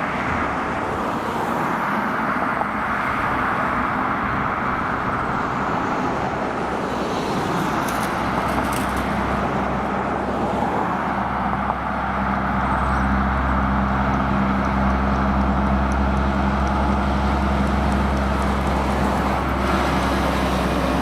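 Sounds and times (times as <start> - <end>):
road traffic passing: 0.0 - 21.0
truck diesel engine hum: 0.0 - 21.0.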